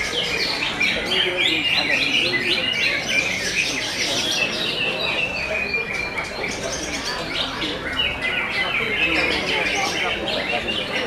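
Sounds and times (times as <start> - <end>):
chorus of birds chirping: 0.0 - 11.0.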